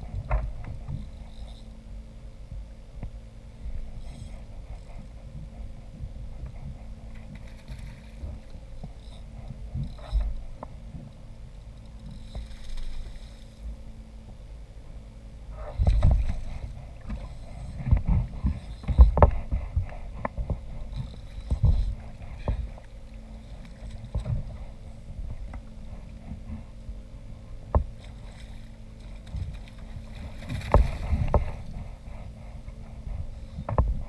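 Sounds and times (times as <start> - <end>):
rumble of water: 0.0 - 34.0
wind: 0.0 - 34.0.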